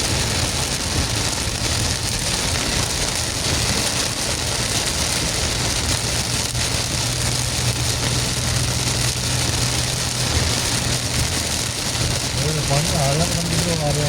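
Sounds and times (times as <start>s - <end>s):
car engine and road hum: 0.0s - 14.0s
heavy rain hissing on a car: 0.0s - 14.0s.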